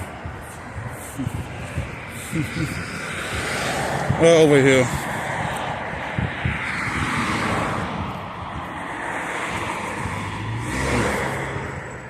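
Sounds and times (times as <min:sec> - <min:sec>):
rushing street noise: 0:00.0 - 0:12.0.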